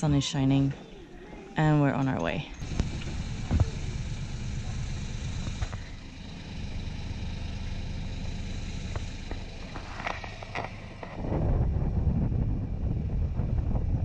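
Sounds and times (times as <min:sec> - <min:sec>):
boat engine running: 0:00.0 - 0:11.7.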